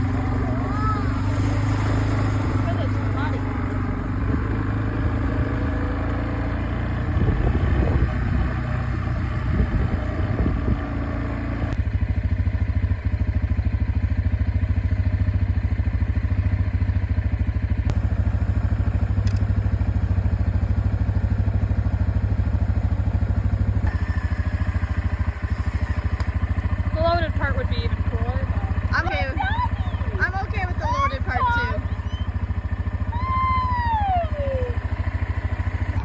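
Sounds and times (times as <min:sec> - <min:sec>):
atv engine running: 0:00.0 - 0:36.0.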